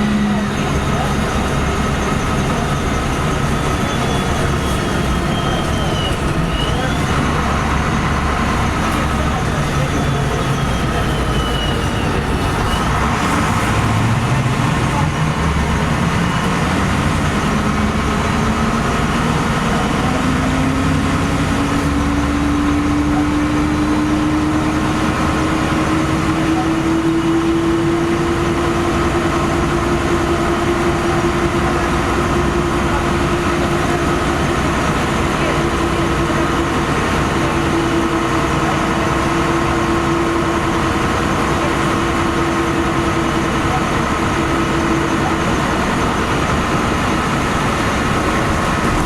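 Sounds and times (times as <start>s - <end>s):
bus engine and road noise: 0.0s - 49.0s
engine whine: 0.0s - 49.0s.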